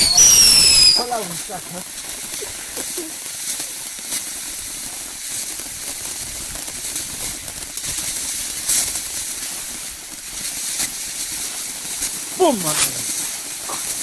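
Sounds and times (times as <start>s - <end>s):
firework fountain hissing: 0.0s - 14.0s
sharp firework pops: 0.0s - 14.0s.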